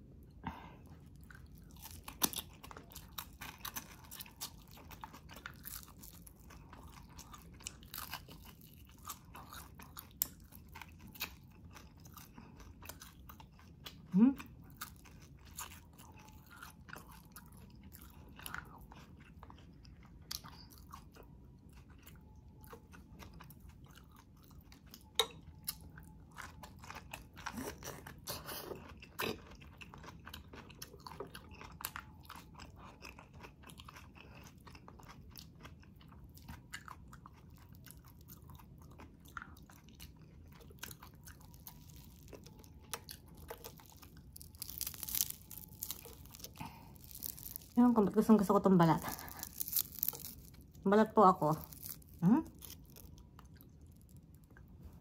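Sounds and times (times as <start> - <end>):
chewing crispy fried fish: 0.2 - 55.0.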